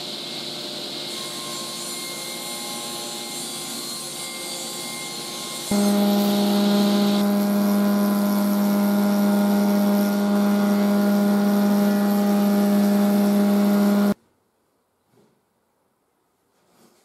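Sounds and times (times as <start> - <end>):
panel saw running: 0.0 - 14.2
woodworking machine humming and whining: 0.0 - 14.2.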